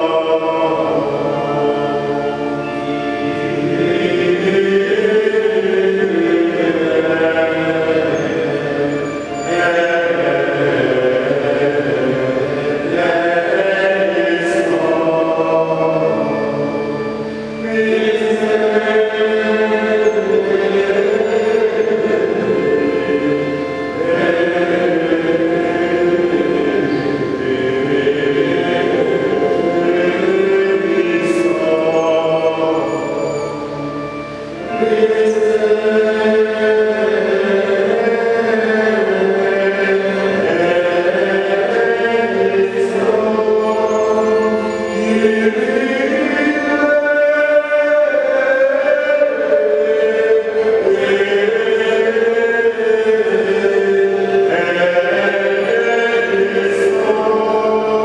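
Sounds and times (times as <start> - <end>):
church choir singing a hymn: 0.0 - 58.0.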